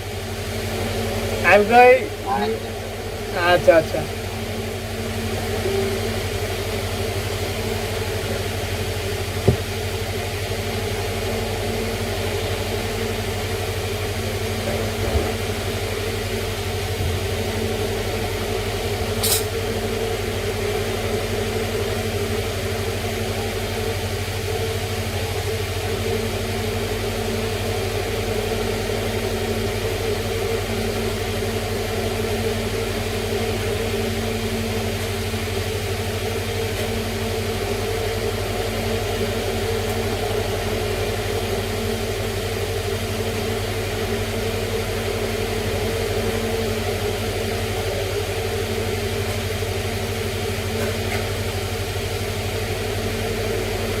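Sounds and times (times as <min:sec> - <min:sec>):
motor humming: 0:00.0 - 0:54.0.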